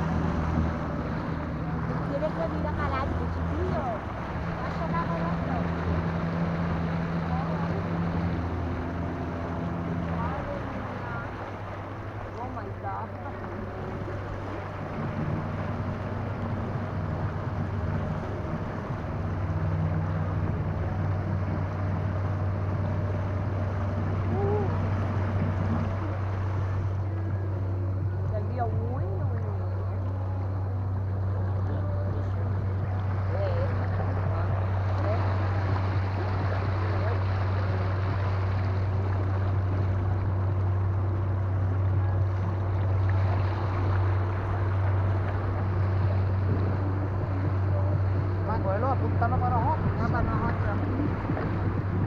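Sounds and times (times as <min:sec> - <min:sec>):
electric outboard motor humming: 0:00.0 - 0:52.0
water noise: 0:00.0 - 0:52.0
wind buffeting microphone: 0:00.0 - 0:52.0.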